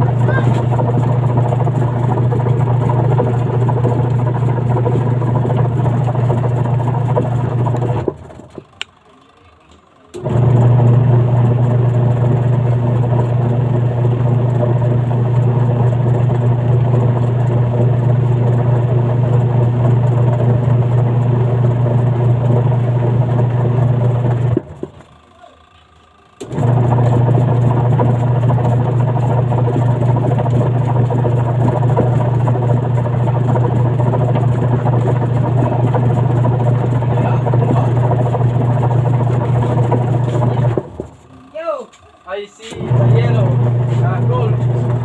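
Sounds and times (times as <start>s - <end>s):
washing machine motor humming: 0.0s - 45.0s.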